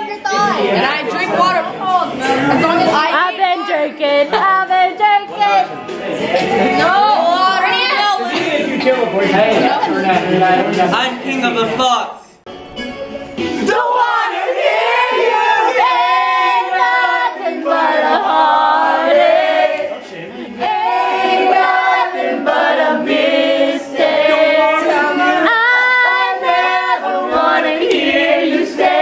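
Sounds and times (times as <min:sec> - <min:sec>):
group singing loudly: 0:00.6 - 0:10.9, 0:13.5 - 0:29.0.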